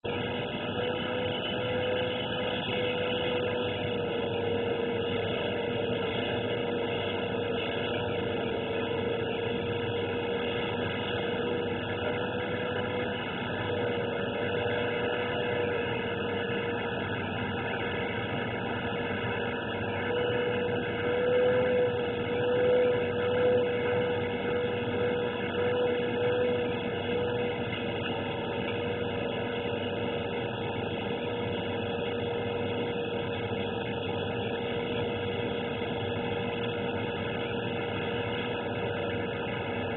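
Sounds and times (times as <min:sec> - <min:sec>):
steady droning hum: 0:00.0 - 0:39.9.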